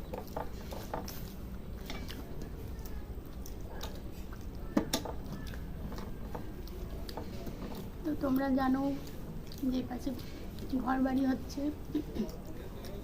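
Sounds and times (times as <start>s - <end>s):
chewing and squishing food: 0.0s - 13.0s
low steady hum: 0.0s - 13.0s.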